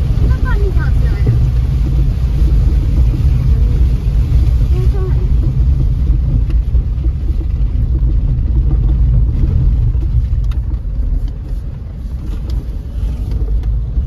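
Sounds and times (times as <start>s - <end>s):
tyres rumbling over gravel: 0.0s - 14.0s.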